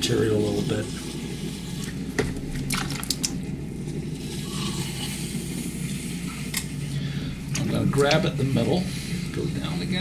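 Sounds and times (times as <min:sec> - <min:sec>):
potter's wheel hum: 0:00.0 - 0:10.0.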